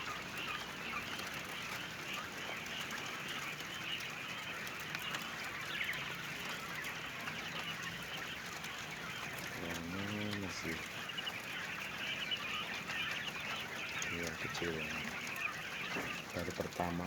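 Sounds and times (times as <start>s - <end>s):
quail chirping and calling: 0.0s - 17.0s.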